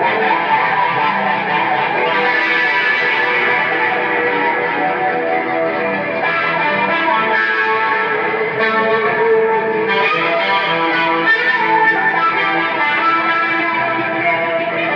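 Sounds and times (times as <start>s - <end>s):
electric guitar with effects: 0.0s - 14.9s.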